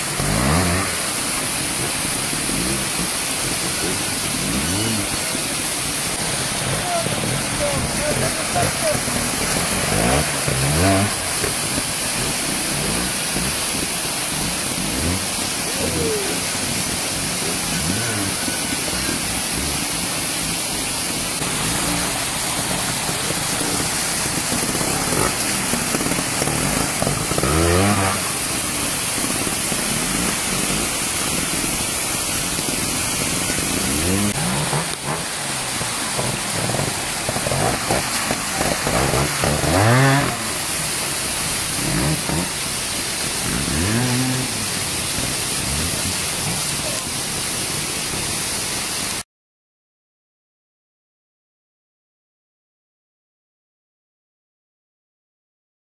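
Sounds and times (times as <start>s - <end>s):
motorcycle engines revving: 0.0s - 49.1s
fast-flowing stream: 0.0s - 49.2s.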